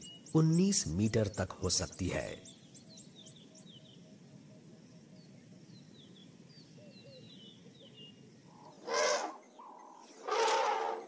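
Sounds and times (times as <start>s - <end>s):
birds chirping and trilling: 0.0s - 11.0s
low background noise: 0.0s - 11.0s.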